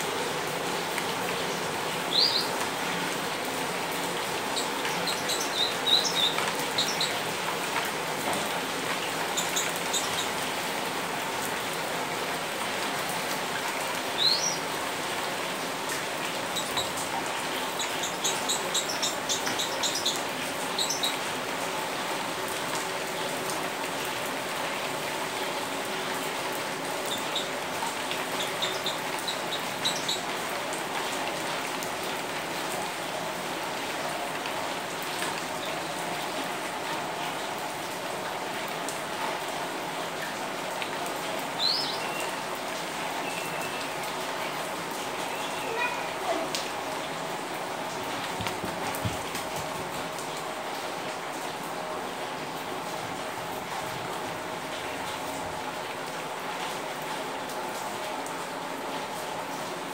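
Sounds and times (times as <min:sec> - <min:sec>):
rain on stone paving: 0:00.0 - 0:59.9.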